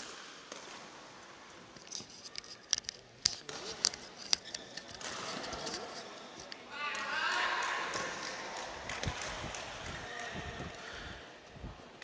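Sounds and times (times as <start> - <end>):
faint hall noise: 0.0 - 12.0.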